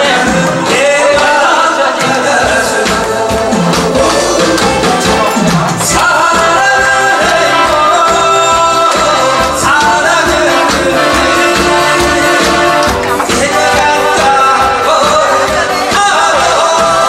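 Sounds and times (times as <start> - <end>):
person singing over backing track: 0.0 - 17.0.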